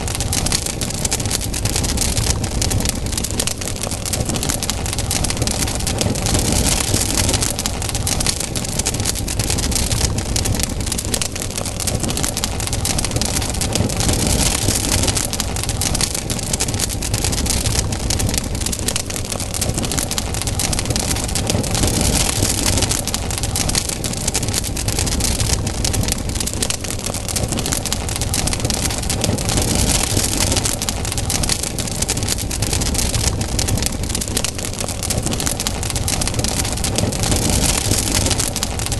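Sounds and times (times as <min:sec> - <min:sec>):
campfire crackling and popping: 0:00.0 - 0:38.9
rushing hiss of fire: 0:00.0 - 0:38.9.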